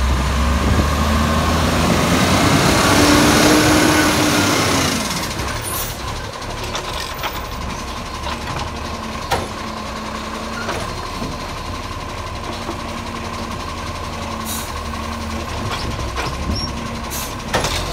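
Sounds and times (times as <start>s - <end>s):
garbage truck engine running: 0.0s - 17.9s.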